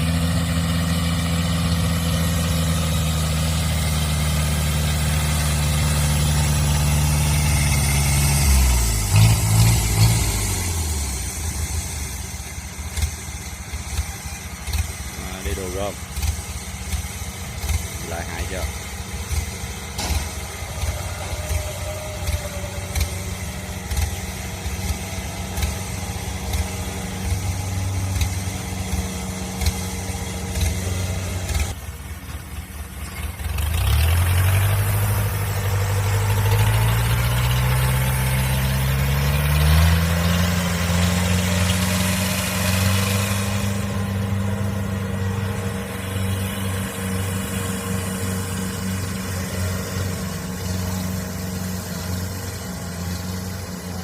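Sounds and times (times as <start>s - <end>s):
diesel engine revving up: 0.0s - 54.0s.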